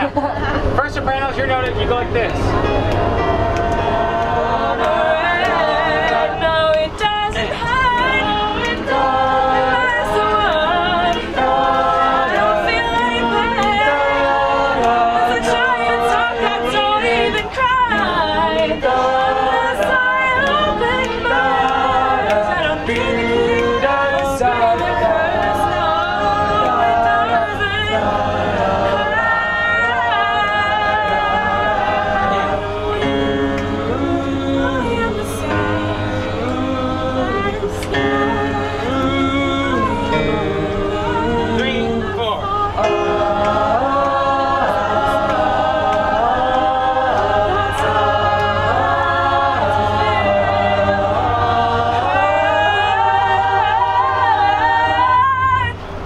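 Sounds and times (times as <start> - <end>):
steady low hum: 0.0 - 56.0
choir singing in harmony: 1.6 - 56.0.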